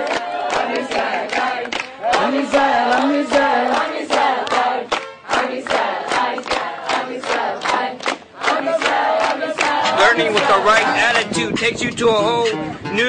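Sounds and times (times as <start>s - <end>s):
group of people singing and chanting: 0.0s - 11.9s.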